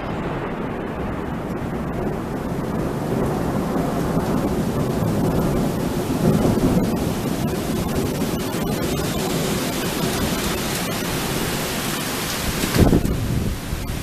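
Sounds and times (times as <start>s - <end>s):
heavy rain hissing: 0.0s - 14.0s
low thunder rumbling: 0.0s - 14.0s.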